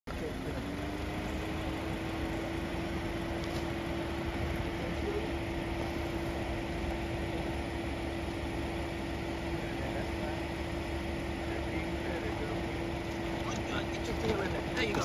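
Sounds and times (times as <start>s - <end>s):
machine hum: 0.1s - 15.0s.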